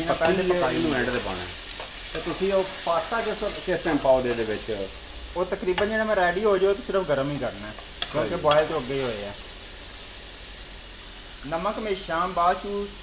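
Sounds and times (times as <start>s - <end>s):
sauce sizzling in a frying pan: 0.0s - 13.0s.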